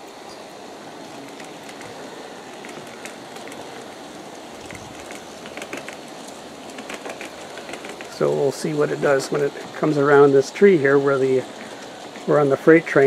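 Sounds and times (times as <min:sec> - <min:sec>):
light track clicks: 0:00.0 - 0:13.0
model train rolling on track: 0:00.0 - 0:13.0.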